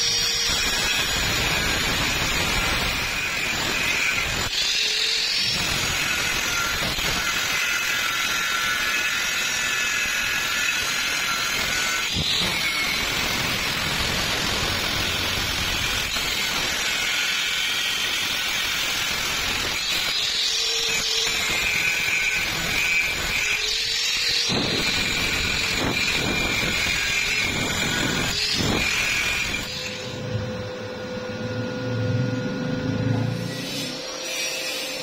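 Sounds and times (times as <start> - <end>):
angle grinder grinding steel: 0.0 - 35.0.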